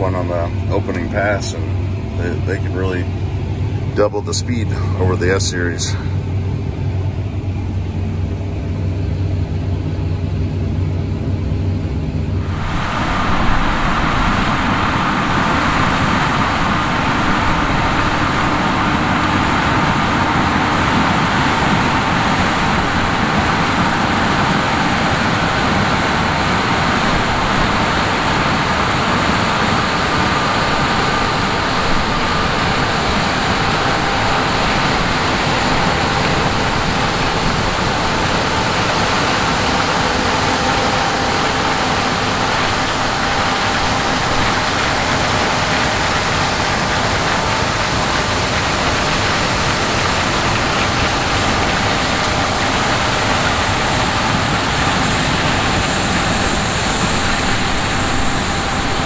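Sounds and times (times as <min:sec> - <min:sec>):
faint whine: 0:00.0 - 0:59.0
harvest machinery roar: 0:00.0 - 0:59.0
tractor engine drone: 0:00.0 - 0:59.0.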